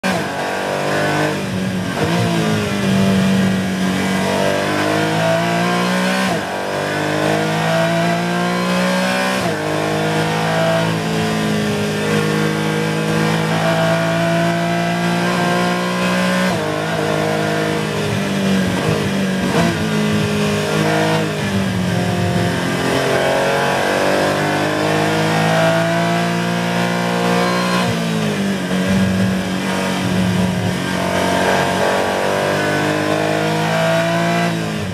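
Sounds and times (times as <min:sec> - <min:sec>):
race car engine at high revs: 0:00.0 - 0:34.9.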